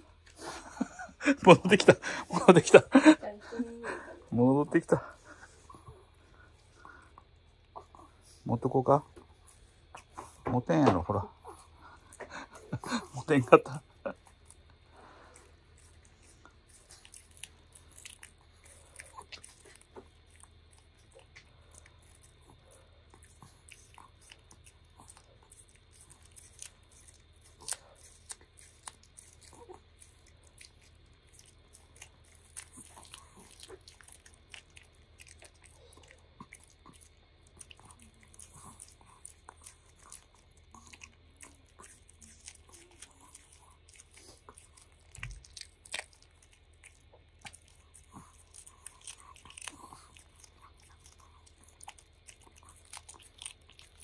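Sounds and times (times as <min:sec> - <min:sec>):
dog licking and nibbling treat: 0:04.3 - 0:54.0.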